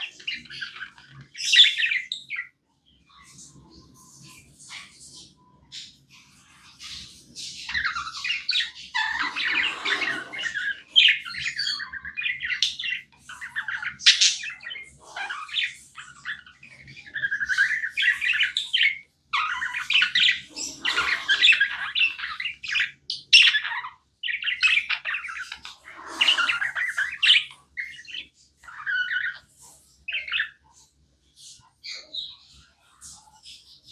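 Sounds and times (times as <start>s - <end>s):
budgies chirping: 0.0s - 33.9s.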